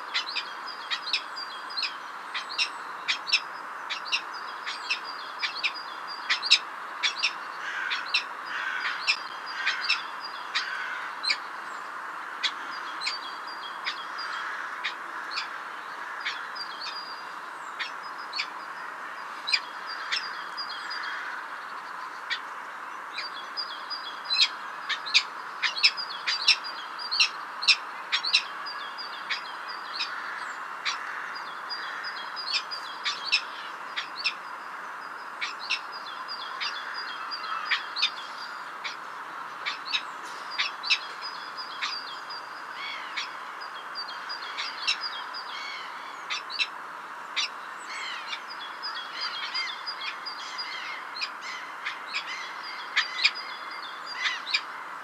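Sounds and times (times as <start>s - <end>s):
small birds chirping: 0.0s - 55.0s
steady background hiss: 0.0s - 55.0s.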